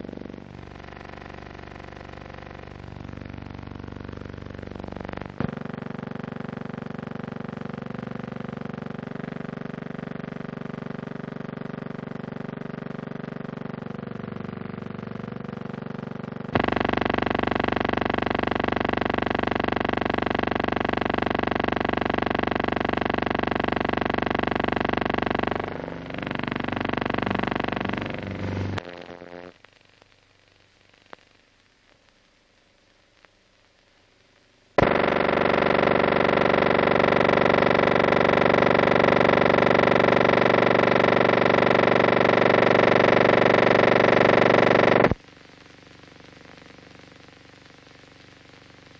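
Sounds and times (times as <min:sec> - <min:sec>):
electrical buzz: 0:00.0 - 0:29.8, 0:34.8 - 0:45.3.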